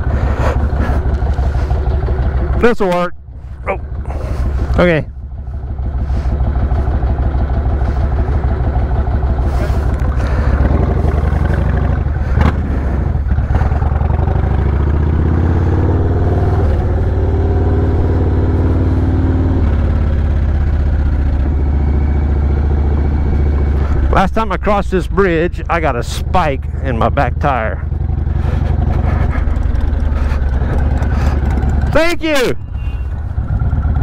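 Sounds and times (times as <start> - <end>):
motorcycle engine: 0.0 - 34.0.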